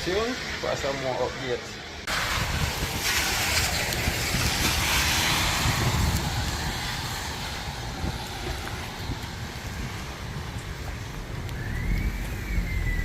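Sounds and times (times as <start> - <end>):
tyres hissing on wet road: 0.0 - 13.0.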